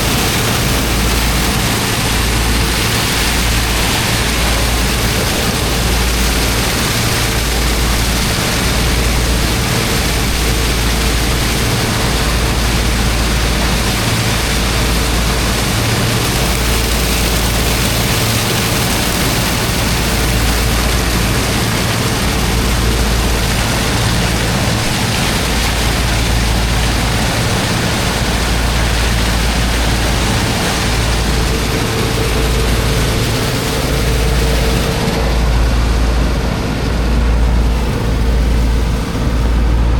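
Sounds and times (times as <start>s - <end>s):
water jet hissing into sand: 0.0s - 35.1s
heavy low rumble: 0.0s - 39.9s
pump engine drone: 0.0s - 39.9s.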